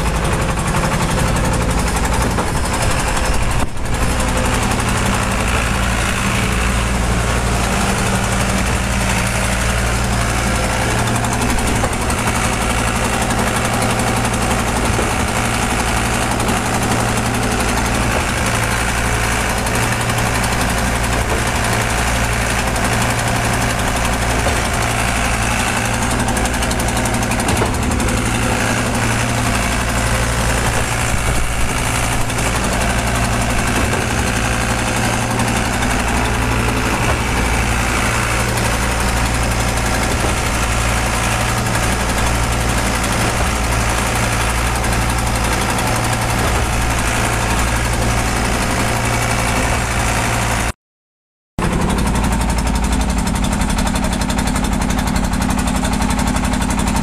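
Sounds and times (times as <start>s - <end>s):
concrete pump engine running: 0.0s - 50.8s, 51.6s - 57.0s.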